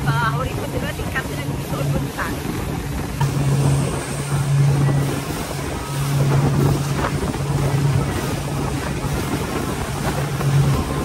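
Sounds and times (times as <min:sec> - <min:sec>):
motorboat engine drone: 0:00.0 - 0:11.0
water rushing past hull: 0:00.0 - 0:11.0
wind buffeting microphone: 0:00.0 - 0:11.0.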